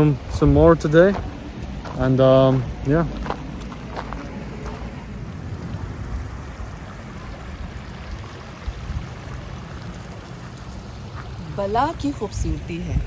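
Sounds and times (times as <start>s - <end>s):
stream rushing over rocks: 1.3s - 12.5s.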